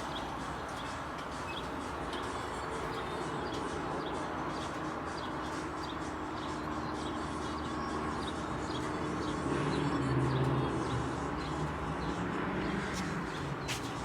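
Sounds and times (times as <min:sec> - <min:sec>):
steady traffic noise: 0:00.0 - 0:14.0
vehicle engine rumble: 0:00.0 - 0:14.0.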